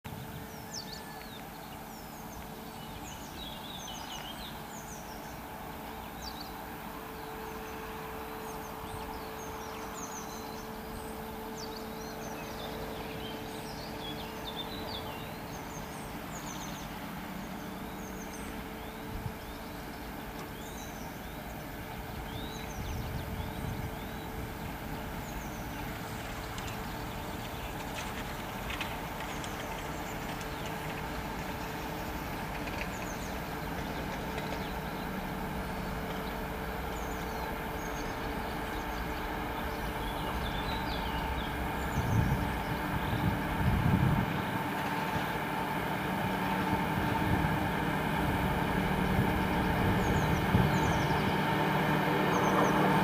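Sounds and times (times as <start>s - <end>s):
distant diesel locomotive rumble: 0.0s - 53.0s
small birds chirping: 0.1s - 53.0s.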